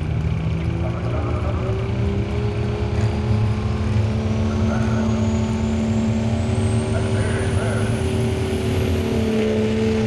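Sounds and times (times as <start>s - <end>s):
diesel engine running hard: 0.0s - 10.0s.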